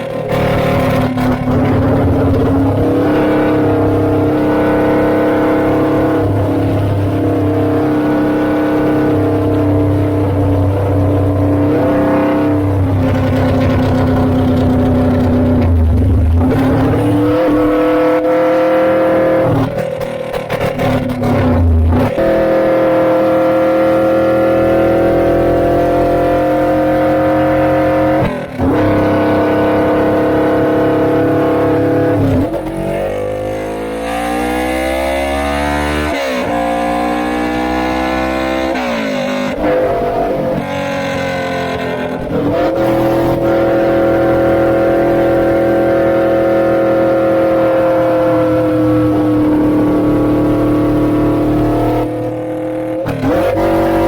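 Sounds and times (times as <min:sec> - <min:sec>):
motorcycle exhaust at speed: 0:00.0 - 0:54.0.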